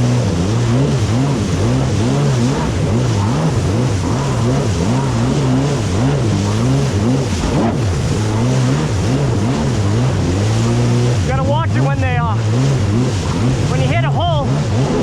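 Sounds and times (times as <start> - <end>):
jet ski engine running hard: 0.0 - 15.0
water rushing: 0.0 - 15.0
wind: 0.0 - 15.0.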